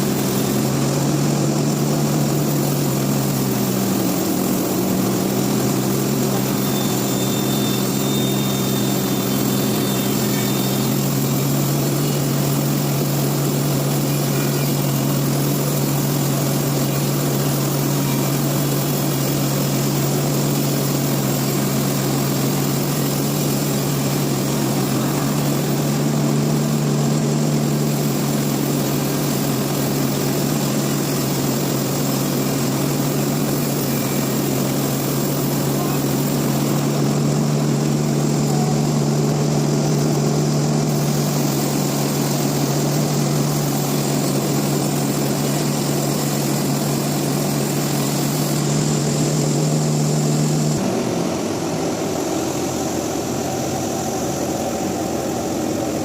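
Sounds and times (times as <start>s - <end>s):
quieter machine running noise: 0.0s - 56.0s
sawmill machinery humming: 0.0s - 56.0s.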